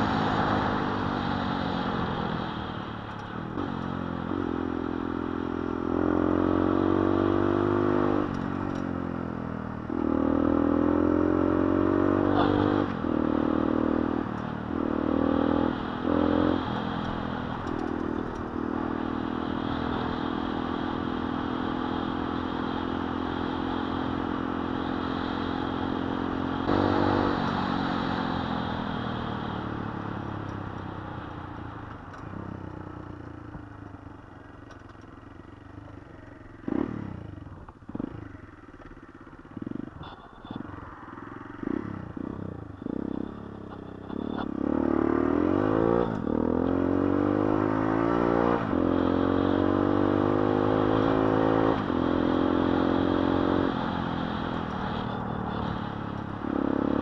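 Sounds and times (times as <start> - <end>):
small motorcycle engine revving: 0.0 - 9.0, 9.8 - 30.4, 36.5 - 57.0.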